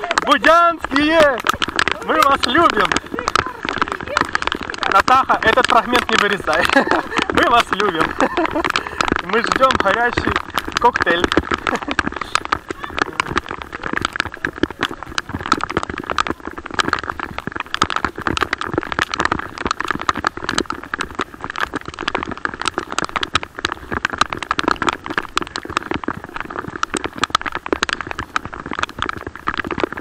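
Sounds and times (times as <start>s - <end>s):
raindrops tapping near microphone: 0.0s - 30.0s.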